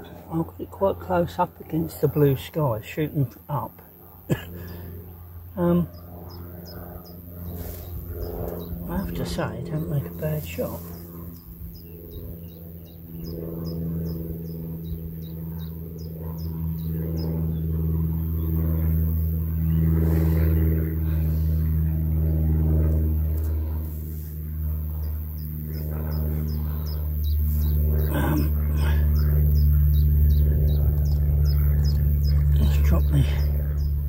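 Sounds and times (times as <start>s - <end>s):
low engine drone: 0.0s - 34.0s.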